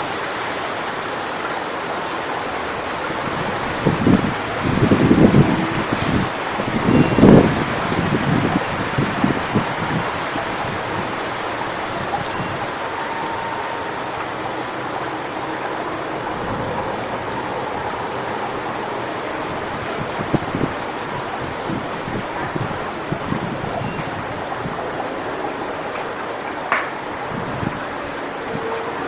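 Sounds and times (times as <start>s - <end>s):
wind rushing through palm fronds: 0.0s - 29.0s
wind buffeting microphone: 2.4s - 29.0s.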